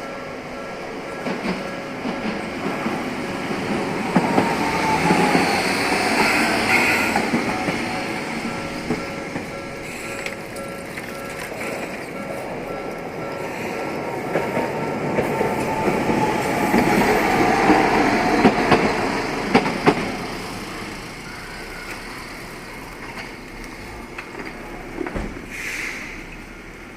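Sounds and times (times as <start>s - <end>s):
wheels clacking on rail joints: 0.0s - 26.5s
tram running noise: 0.0s - 26.9s.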